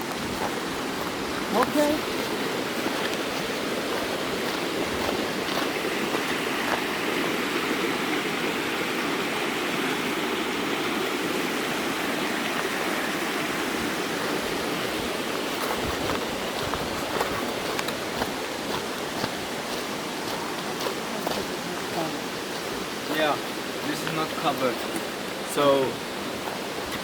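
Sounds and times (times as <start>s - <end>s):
stream water rushing: 0.0s - 27.0s.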